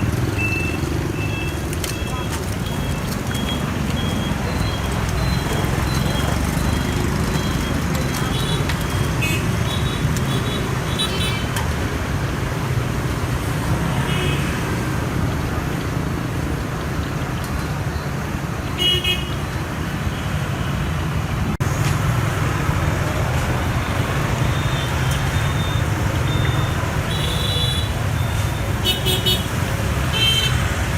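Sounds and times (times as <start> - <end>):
street traffic rumble: 0.0 - 30.9.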